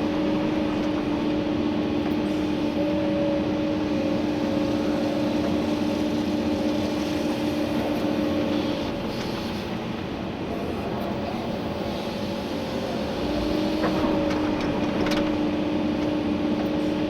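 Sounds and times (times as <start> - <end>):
excavator diesel engine and hydraulics: 0.0 - 17.0.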